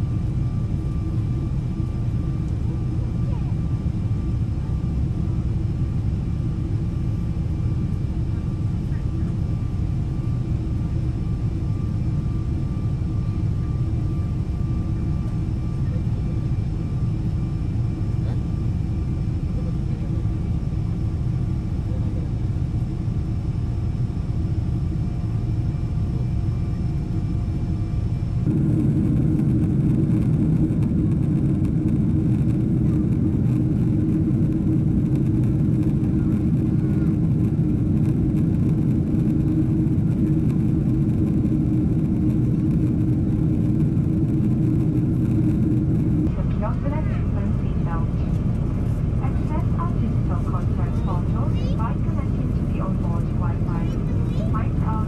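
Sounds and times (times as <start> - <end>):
aircraft cabin engine rumble: 0.0 - 55.0
faint steady whines: 0.0 - 55.0.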